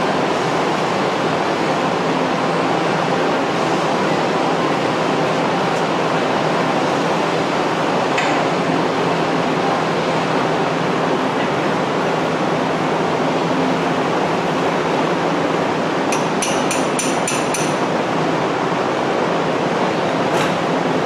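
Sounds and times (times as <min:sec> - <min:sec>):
fan rushing noise: 0:00.0 - 0:21.0.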